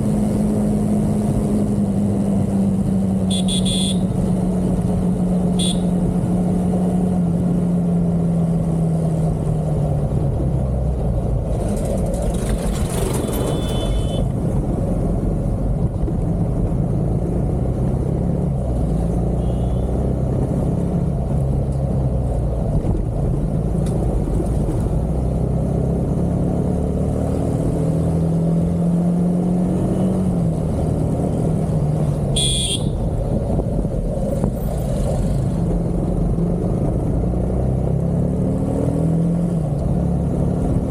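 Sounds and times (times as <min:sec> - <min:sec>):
road and wind noise: 0:00.0 - 0:40.9
vehicle engine running at speed: 0:00.0 - 0:40.9.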